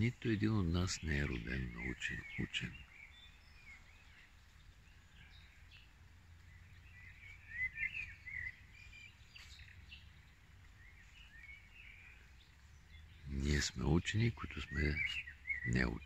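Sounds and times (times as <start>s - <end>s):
birds chirping: 0.0s - 16.0s
faint low rumble: 0.0s - 16.0s.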